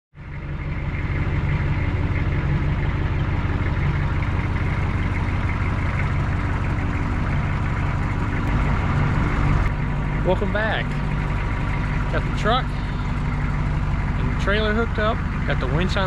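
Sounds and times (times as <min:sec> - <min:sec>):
vehicle engine idling: 0:00.1 - 0:16.0.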